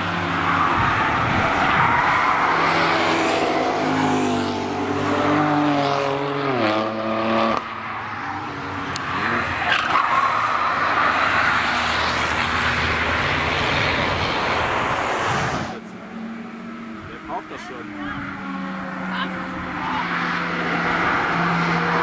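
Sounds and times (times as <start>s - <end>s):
car engine and tyre noise: 0.0s - 22.0s
car engine passing at speed: 0.0s - 22.0s.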